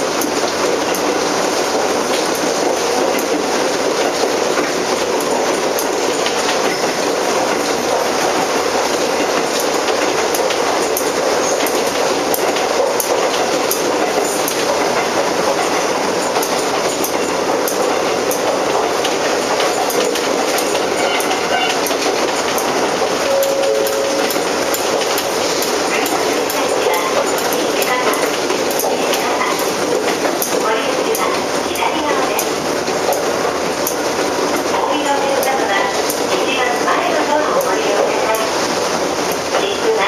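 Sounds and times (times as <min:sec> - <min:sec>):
rail joint clicks: 0:00.0 - 0:40.0
train wheels rumbling on rail: 0:00.0 - 0:40.0.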